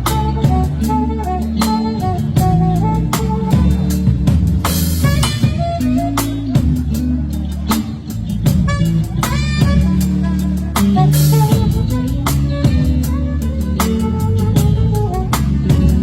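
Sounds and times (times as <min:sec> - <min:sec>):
drum kit beat: 0:00.0 - 0:16.0
live band playing groove: 0:00.0 - 0:16.0.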